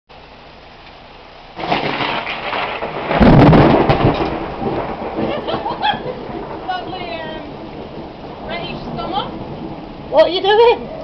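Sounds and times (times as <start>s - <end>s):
rain falling: 0.2s - 11.0s
thunder: 1.6s - 11.0s.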